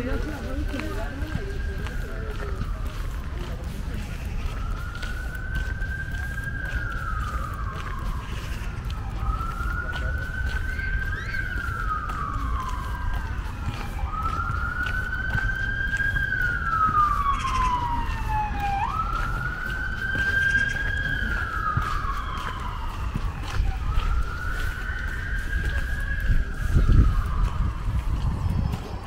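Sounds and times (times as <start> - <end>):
emergency vehicle siren wailing: 0.0 - 29.0.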